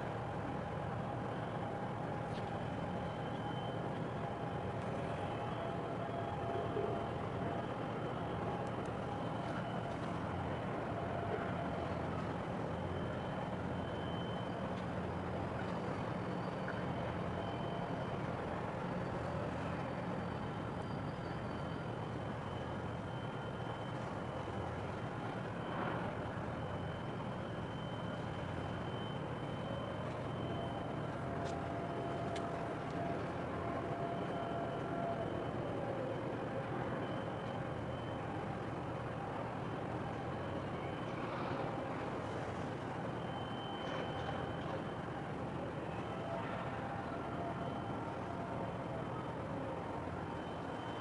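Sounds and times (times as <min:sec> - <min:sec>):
diesel engines droning: 0:00.0 - 0:51.0
faint high whine: 0:00.0 - 0:51.0.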